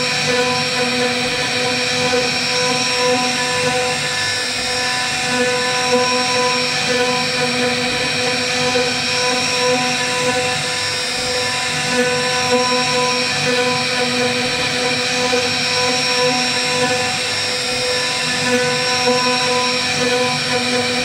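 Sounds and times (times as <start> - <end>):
router spindle whine: 0.0 - 21.0.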